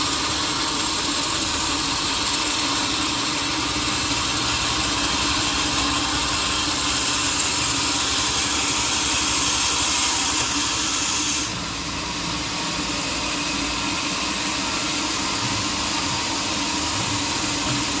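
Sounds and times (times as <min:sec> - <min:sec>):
sawmill machinery hum: 0:00.0 - 0:18.0.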